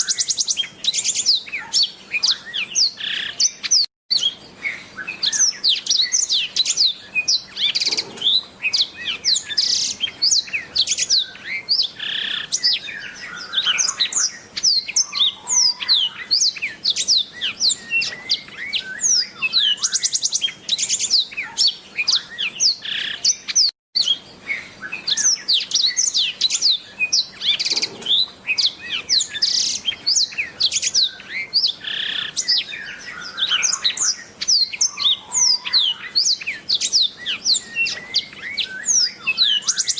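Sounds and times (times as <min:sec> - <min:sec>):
bird singing rapid twitters: 0:00.0 - 0:39.9.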